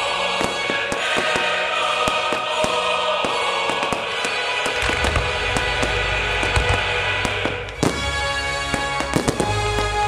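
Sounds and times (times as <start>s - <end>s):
choral music: 0.0s - 10.0s
firework shots: 0.3s - 10.0s.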